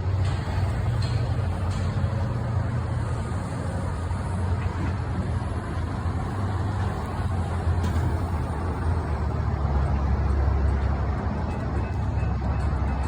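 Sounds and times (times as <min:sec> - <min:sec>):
diesel train engine rumble: 0:00.0 - 0:13.0.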